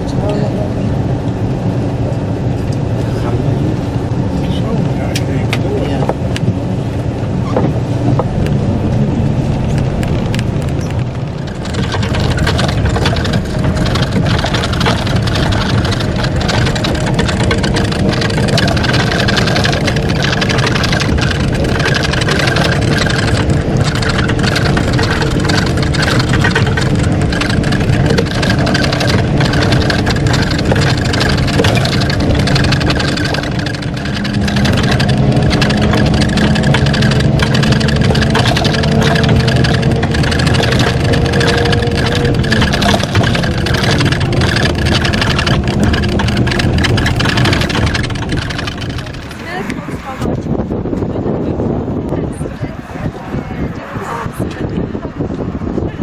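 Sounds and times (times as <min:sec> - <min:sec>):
rushing road noise: 0:00.0 - 0:56.0
vehicle engine drone: 0:00.0 - 0:56.0.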